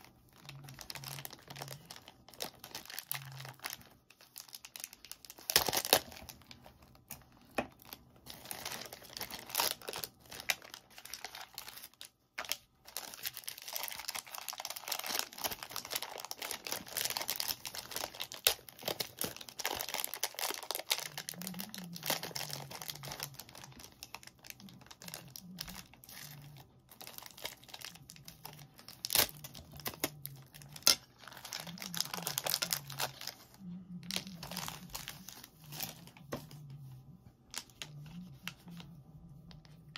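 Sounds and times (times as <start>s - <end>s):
plastic bags crinkling: 0.0s - 36.7s.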